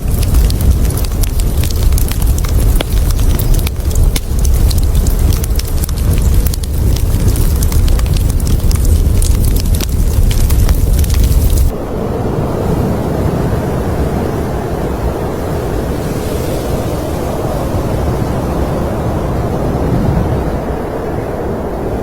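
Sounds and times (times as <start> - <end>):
wind blowing: 0.0 - 22.0.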